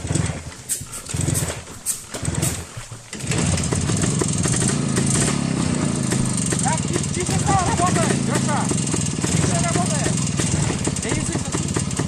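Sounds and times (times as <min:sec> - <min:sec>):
motorcycle engine cranking: 0:00.0 - 0:12.0
motorcycle engine idling: 0:00.0 - 0:12.0.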